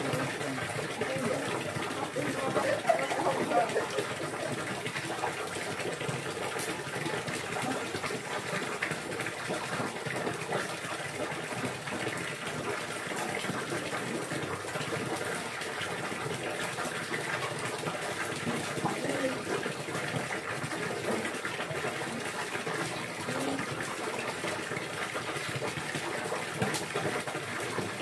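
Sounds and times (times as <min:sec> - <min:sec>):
water gushing and splashing: 0:00.0 - 0:28.0.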